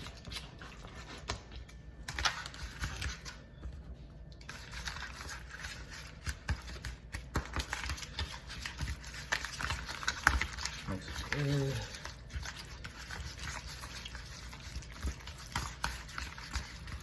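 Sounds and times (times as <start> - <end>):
food stirred in a bowl: 0.0 - 17.0.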